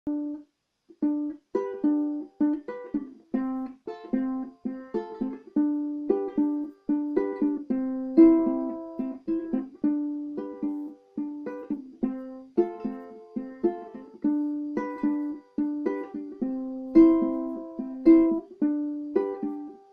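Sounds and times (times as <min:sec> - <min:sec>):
ukulele plucked notes and chords: 0:00.1 - 0:19.9.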